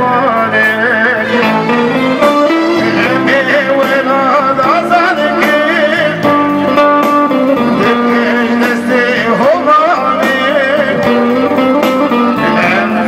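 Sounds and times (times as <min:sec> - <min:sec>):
instrumental accompaniment: 0:00.0 - 0:13.0
man singing into a microphone: 0:00.0 - 0:13.0.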